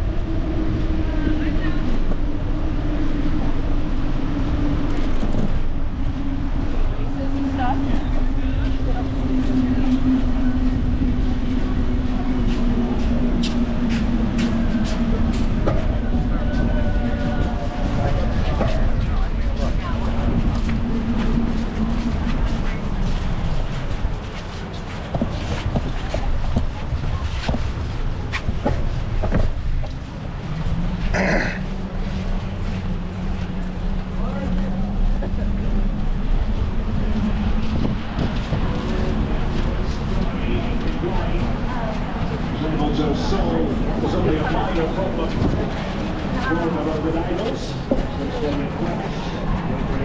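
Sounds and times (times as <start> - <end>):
constant low hum: 0.0 - 50.0
wind noise: 0.0 - 50.0.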